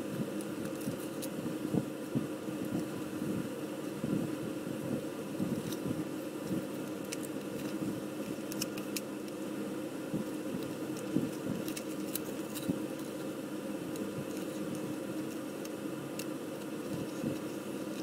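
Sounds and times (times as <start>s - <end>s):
masking tape clicks and crackles: 0.0s - 18.0s
steady low hum: 0.0s - 18.0s.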